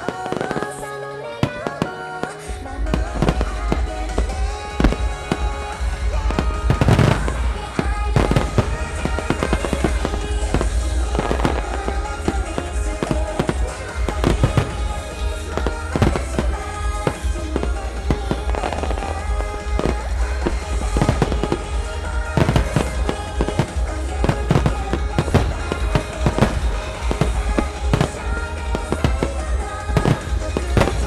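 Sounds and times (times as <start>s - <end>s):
firework shells bursting: 0.0s - 31.0s
pop song playing loudly: 0.0s - 31.0s.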